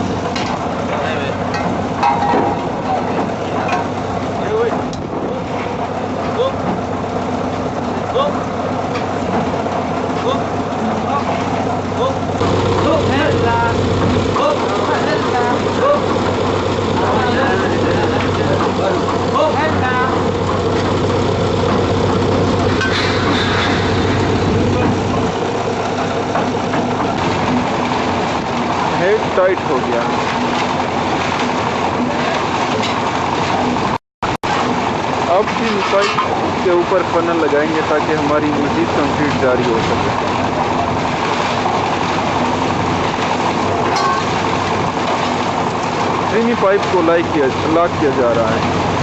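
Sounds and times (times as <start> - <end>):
heavy machinery engine humming: 0.0 - 49.0.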